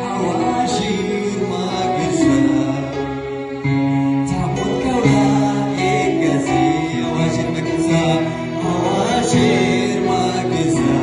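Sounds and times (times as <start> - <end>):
keyboard sustained chords: 0.0 - 11.0
man singing into a microphone: 0.0 - 11.0.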